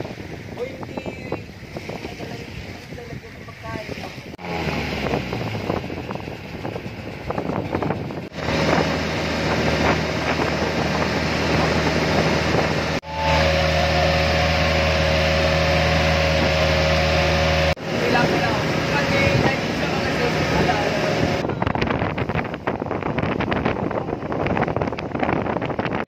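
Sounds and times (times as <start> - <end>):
wind: 0.0 - 26.0
boat engine droning: 0.1 - 23.4.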